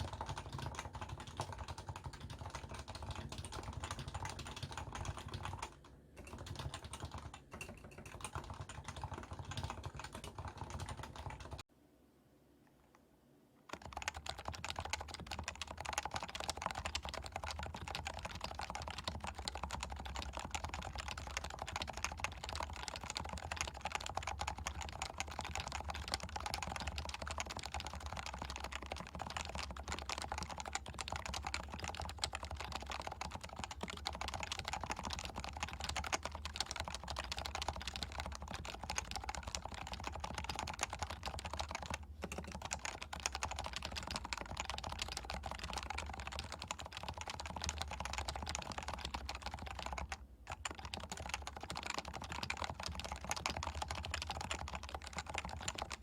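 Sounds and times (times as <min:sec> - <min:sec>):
keyboard typing clicks: 0:00.0 - 0:11.6, 0:13.7 - 0:56.0.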